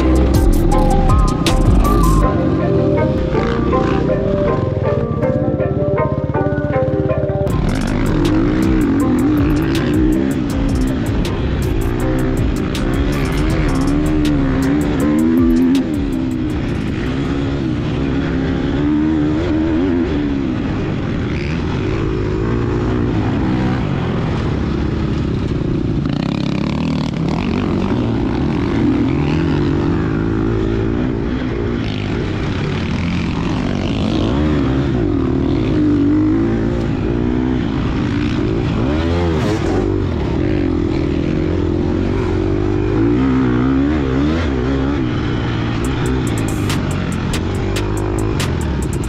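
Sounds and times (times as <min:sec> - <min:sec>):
dirt bike engine revving: 0:00.0 - 0:06.1, 0:06.7 - 0:49.0.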